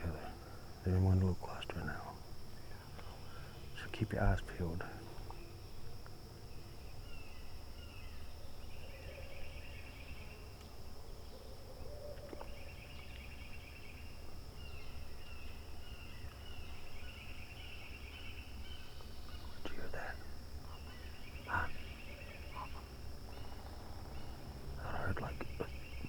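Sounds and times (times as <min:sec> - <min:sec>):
birds calling: 0:00.0 - 0:26.0
high insect drone: 0:00.0 - 0:26.0.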